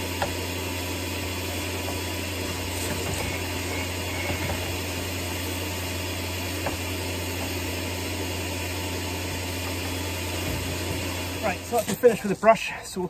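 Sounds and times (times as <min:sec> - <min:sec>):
pressure washer humming: 0:00.0 - 0:13.0.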